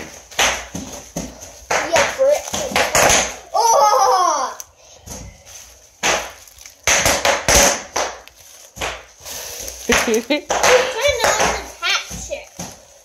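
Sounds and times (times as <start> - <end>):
bubble wrap popping: 0.0 - 4.7, 5.4 - 13.0.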